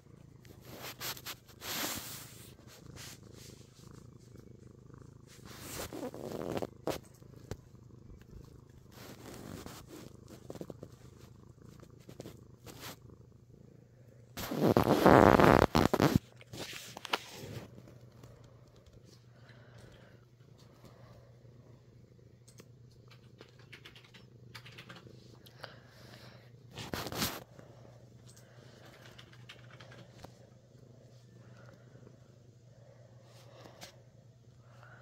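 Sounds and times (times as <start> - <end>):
cat purring: 0.0 - 35.0.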